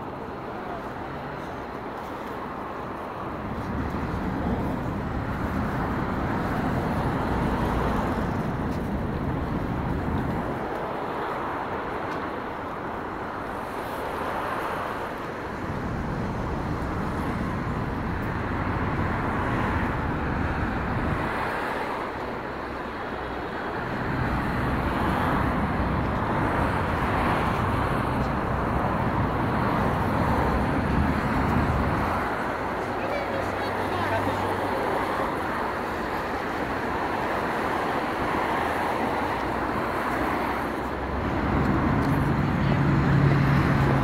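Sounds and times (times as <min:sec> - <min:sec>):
city street traffic: 0:00.0 - 0:44.0
low traffic rumble: 0:00.0 - 0:44.0.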